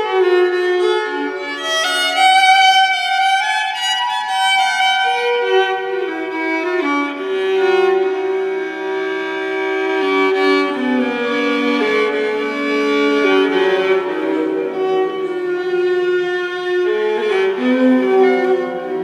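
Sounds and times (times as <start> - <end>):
slow bowed string melody: 0.0 - 19.0.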